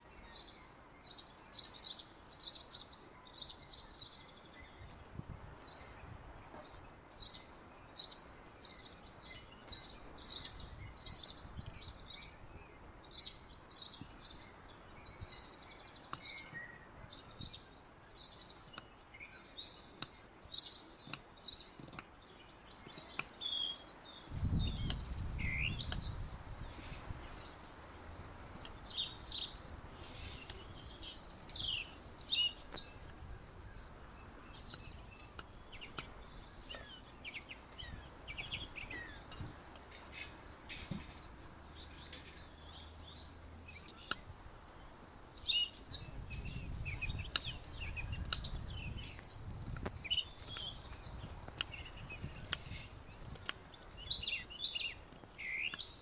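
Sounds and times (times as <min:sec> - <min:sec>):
small birds chirping: 0:00.0 - 0:56.0
sweeping whistled bird calls: 0:00.0 - 0:56.0.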